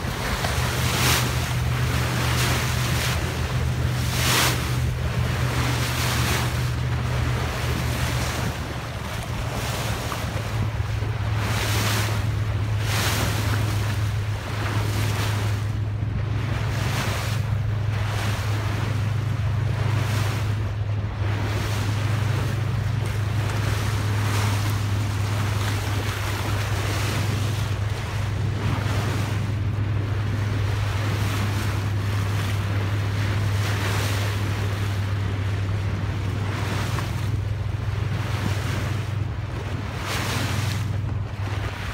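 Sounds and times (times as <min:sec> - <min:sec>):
boat engine drone: 0:00.0 - 0:41.9
bow wave splashing on hull: 0:00.0 - 0:41.9
wind buffeting microphone: 0:00.0 - 0:41.9.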